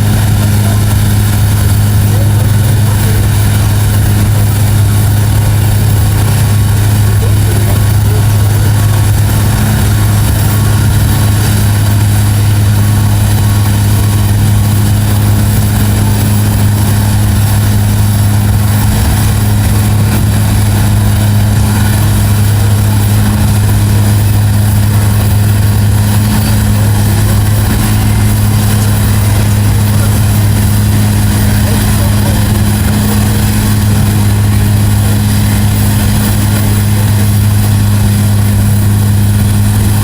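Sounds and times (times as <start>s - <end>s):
heavy engine idling: 0.0s - 40.0s.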